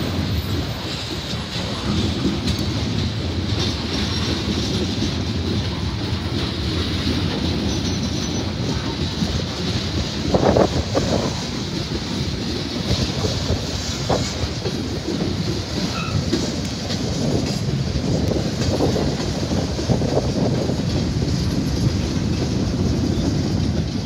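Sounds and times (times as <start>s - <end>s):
train wheels rumbling on rails: 0.0s - 24.0s
wheels clacking over rail joints: 0.0s - 24.0s.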